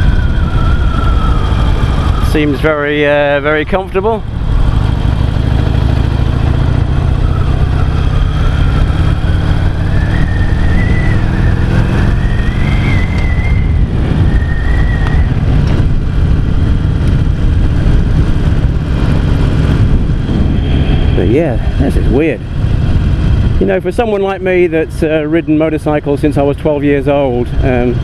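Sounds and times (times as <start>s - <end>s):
motorcycle engine riding: 0.0s - 28.0s.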